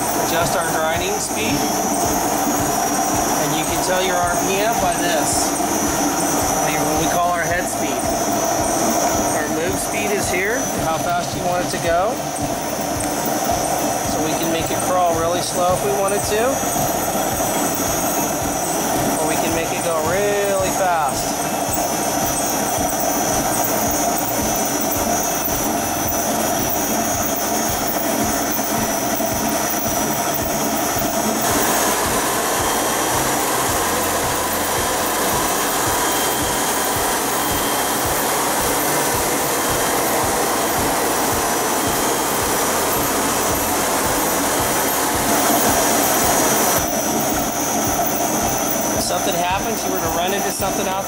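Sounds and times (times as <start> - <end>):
concrete grinder drone: 0.0 - 51.0
high machine whine: 0.0 - 51.0.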